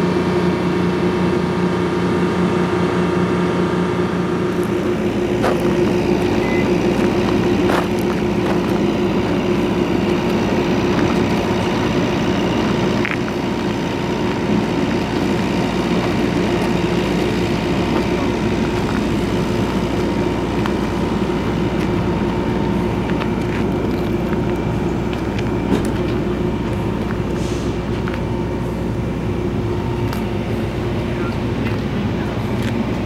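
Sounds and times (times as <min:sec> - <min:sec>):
train machinery humming: 0:00.0 - 0:33.0.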